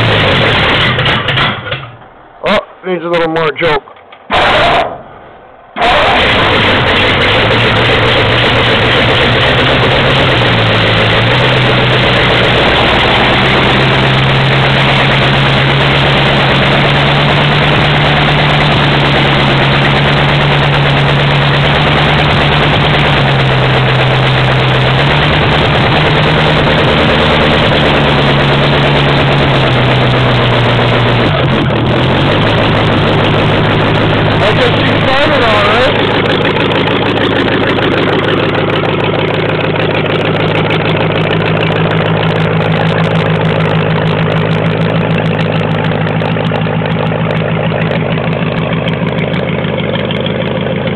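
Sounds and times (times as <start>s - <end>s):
engine running at fast idle: 0.0s - 2.2s, 5.8s - 50.9s.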